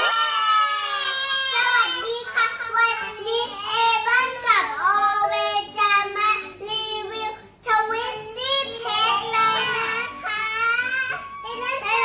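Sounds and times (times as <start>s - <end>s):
child singing in a high voice: 1.3s - 12.0s.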